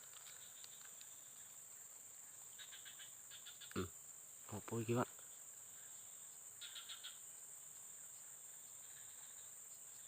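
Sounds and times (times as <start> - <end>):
high-pitched insect drone: 0.0 - 10.0
quick insect chirps: 0.0 - 10.0.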